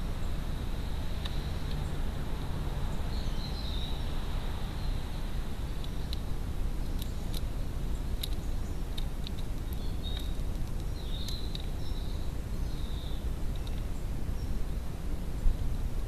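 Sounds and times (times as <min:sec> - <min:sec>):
small birds chirping: 0:00.0 - 0:15.8
low outdoor rumble: 0:00.0 - 0:16.0.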